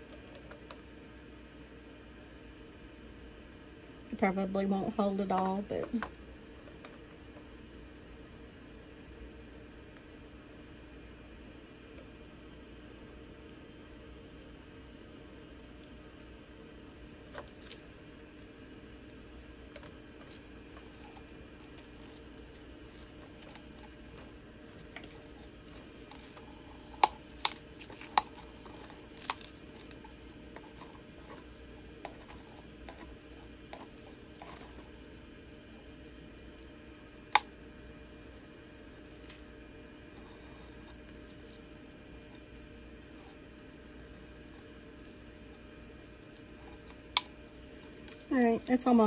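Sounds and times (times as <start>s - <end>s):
low room hum: 0.0s - 49.0s.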